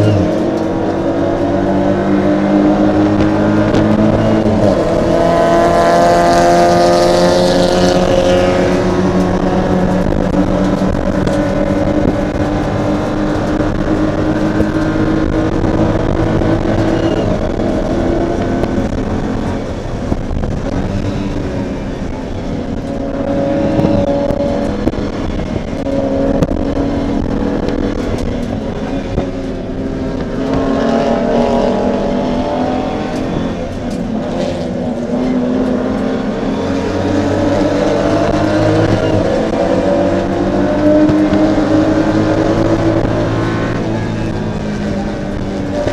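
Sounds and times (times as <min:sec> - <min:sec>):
race car engine revving: 0:00.0 - 0:45.9
road and wind noise: 0:00.0 - 0:45.9.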